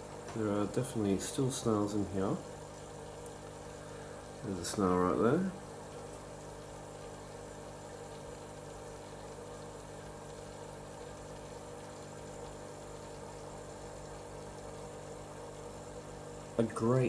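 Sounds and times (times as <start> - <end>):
steady low hum with tones: 0.0 - 17.0.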